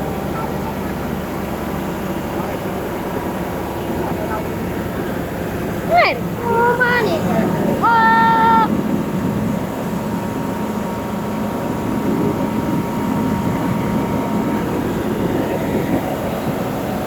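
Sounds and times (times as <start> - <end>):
diesel truck engine hum: 0.0 - 17.0.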